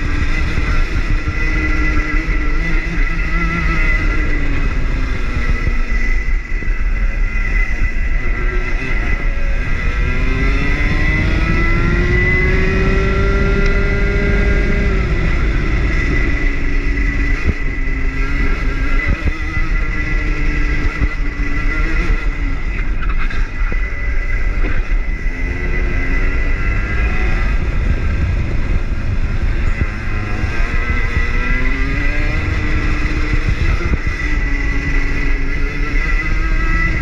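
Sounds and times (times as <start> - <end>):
kart engine revving: 0.0 - 37.0
wind and vibration rumble: 0.0 - 37.0.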